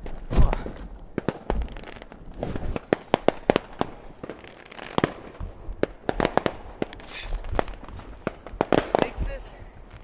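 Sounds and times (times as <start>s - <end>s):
fireworks and firecrackers banging: 0.0s - 10.0s.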